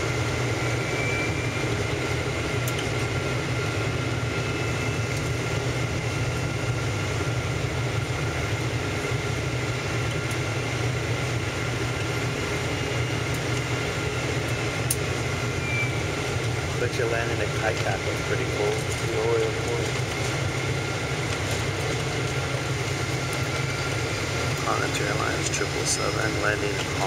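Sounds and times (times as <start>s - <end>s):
engine and airflow rumble: 0.0s - 27.0s
thin steady whines: 0.0s - 27.0s.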